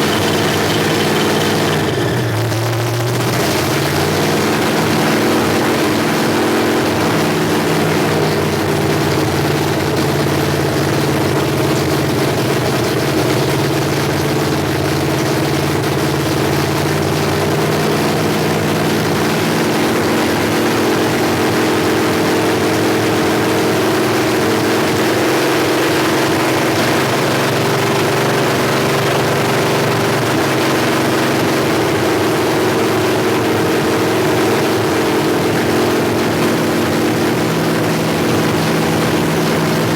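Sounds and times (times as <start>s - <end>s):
engine revving on open headers: 0.0s - 39.9s.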